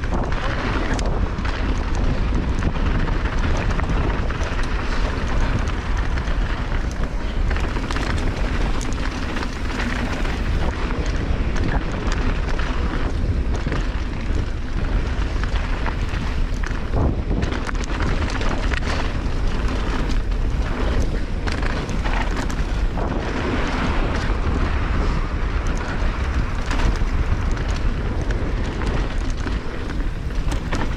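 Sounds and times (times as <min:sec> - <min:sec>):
small clicks and rattles: 0:00.0 - 0:30.9
wind buffeting microphone: 0:00.0 - 0:30.9.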